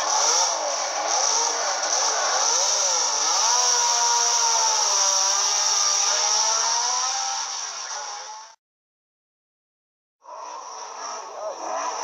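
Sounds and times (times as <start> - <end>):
racing car engine revving: 0.0 - 8.6, 10.2 - 12.0.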